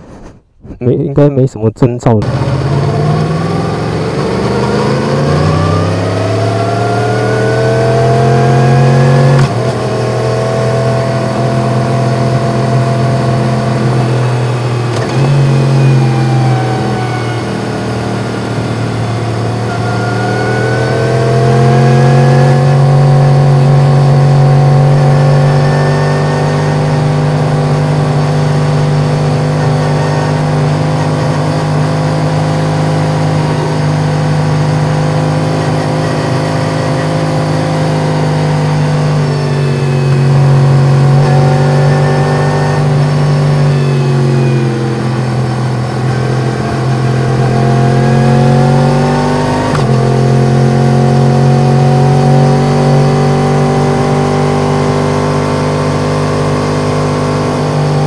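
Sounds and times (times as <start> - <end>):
motorcycle engine revving: 2.2 - 58.0.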